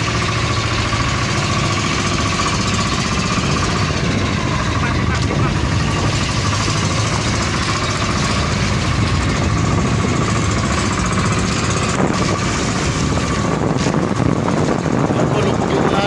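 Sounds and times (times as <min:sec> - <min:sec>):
motor boat engine droning: 0:00.0 - 0:16.0.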